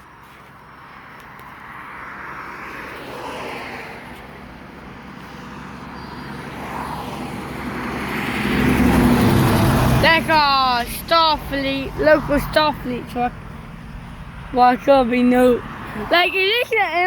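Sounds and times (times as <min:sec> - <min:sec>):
traffic passing: 0:00.0 - 0:17.0
truck approaching: 0:00.0 - 0:17.0.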